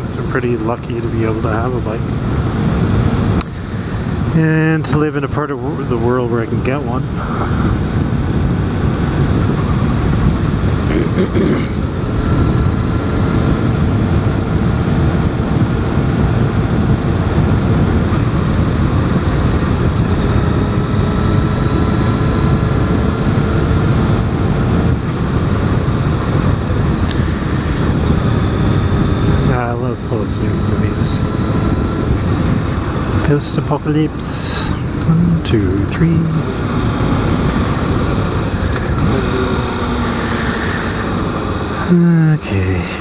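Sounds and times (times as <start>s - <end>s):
motorcycle engine cruising: 0.0s - 43.0s
wind rush on microphone: 0.0s - 43.0s.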